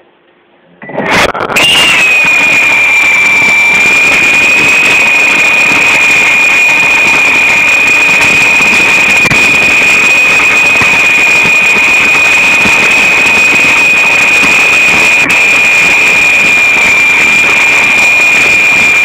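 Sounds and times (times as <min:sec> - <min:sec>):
rc helicopter motor whine: 0:01.6 - 0:19.0.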